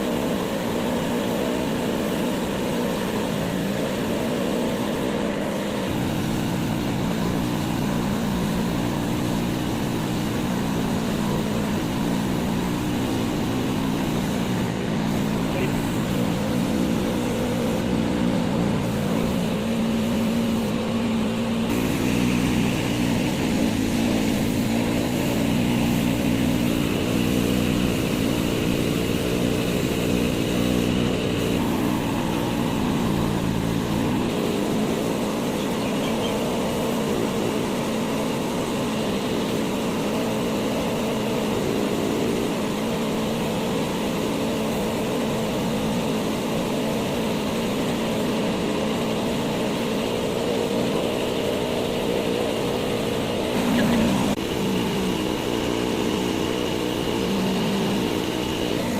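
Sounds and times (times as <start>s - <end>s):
motor drone: 0.0s - 58.9s.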